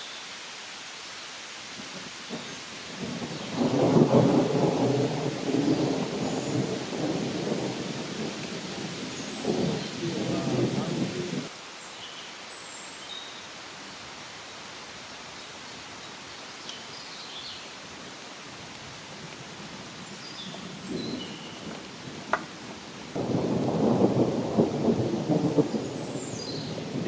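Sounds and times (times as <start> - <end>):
rain on forest canopy: 0.0 - 27.0.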